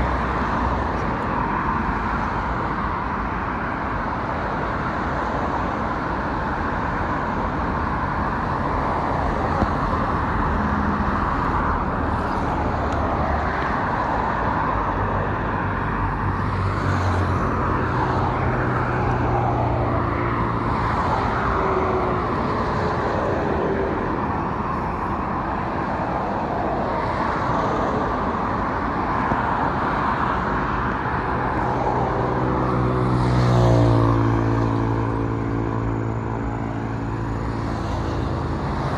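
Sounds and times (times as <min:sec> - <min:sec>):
highway traffic hum: 0:00.0 - 0:38.9.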